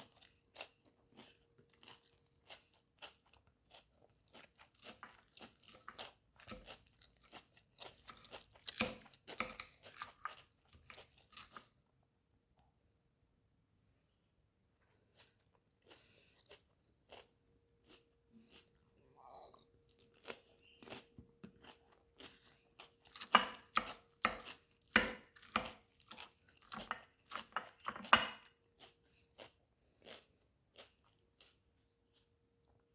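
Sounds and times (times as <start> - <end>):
person chewing crunchy salad: 0.0 - 12.0, 14.9 - 32.8.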